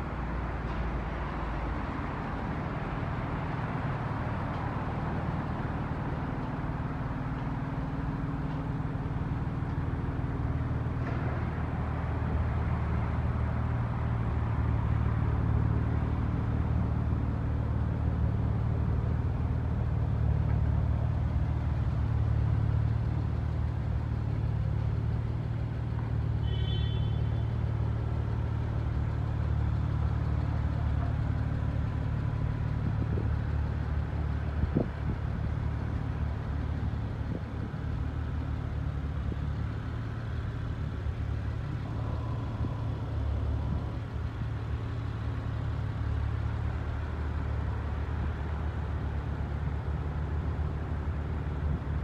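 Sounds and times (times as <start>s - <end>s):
car engine idling: 3.8s - 52.0s.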